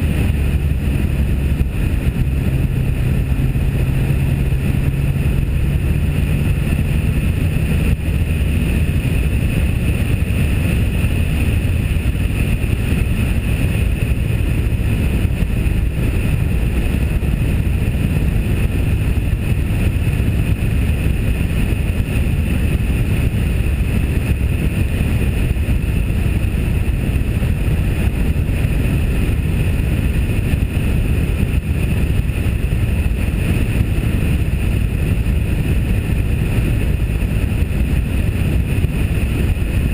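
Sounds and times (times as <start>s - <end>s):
car engine and road noise: 0.0s - 39.9s
wind rumble on microphone: 0.0s - 39.9s.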